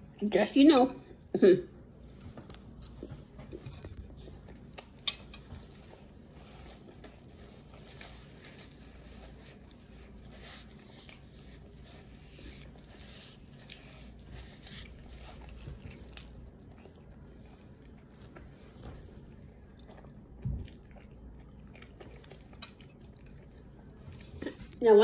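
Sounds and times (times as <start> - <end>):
person chewing: 1.1 - 24.8.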